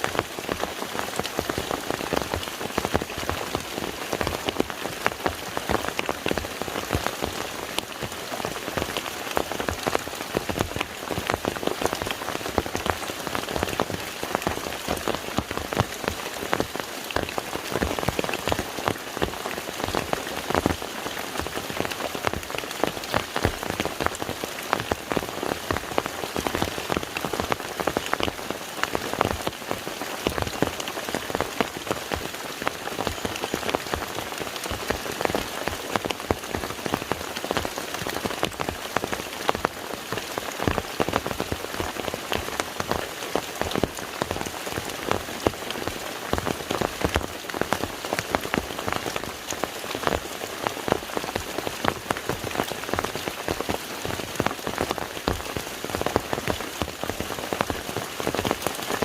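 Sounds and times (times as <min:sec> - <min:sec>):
rain on water surface: 0:00.0 - 0:59.0.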